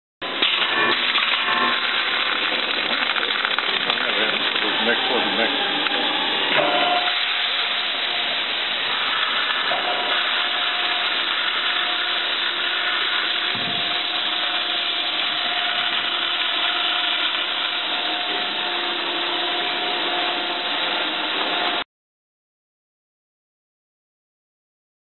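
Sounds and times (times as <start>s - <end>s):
machine humming: 0.2s - 21.8s.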